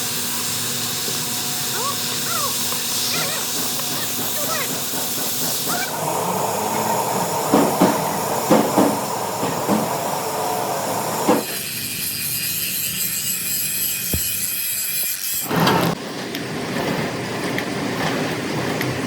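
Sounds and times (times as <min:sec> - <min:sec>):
mechanical workshop din: 0:00.0 - 0:19.0.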